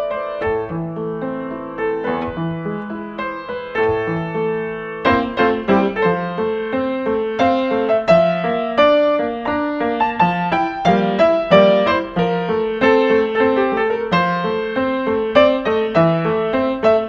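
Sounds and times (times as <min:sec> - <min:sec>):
upright piano playing: 0:00.0 - 0:17.0.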